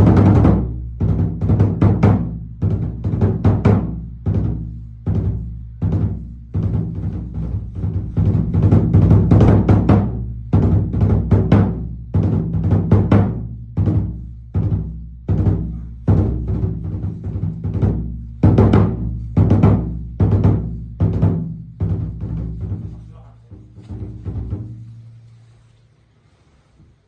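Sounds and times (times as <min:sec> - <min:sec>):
deep taiko drum strokes: 0:00.0 - 0:25.6.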